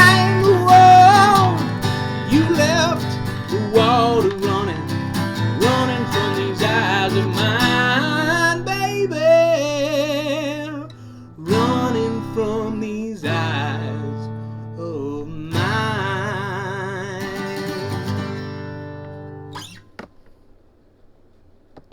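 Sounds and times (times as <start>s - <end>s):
acoustic guitar chords strummed: 0.0s - 20.0s.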